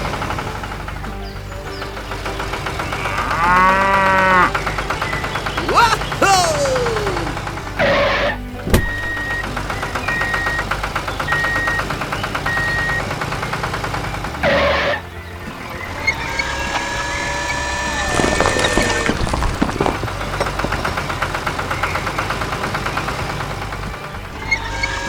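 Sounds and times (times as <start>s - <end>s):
background music: 0.0s - 25.0s
vehicle engine humming: 0.0s - 25.0s.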